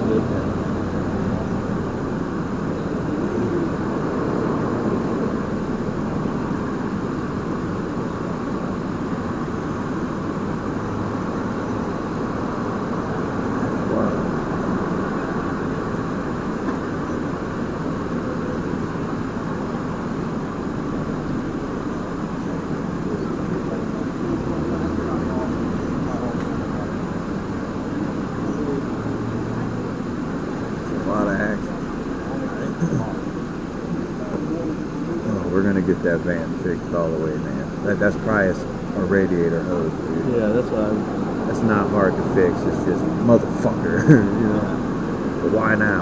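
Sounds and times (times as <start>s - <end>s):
vehicle engine droning: 0.0s - 46.0s.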